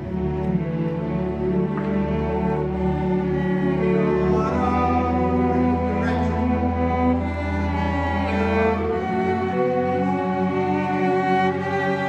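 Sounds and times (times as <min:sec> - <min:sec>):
bowed string instrument close by: 0:00.0 - 0:12.0
string orchestra holding notes: 0:00.0 - 0:12.0.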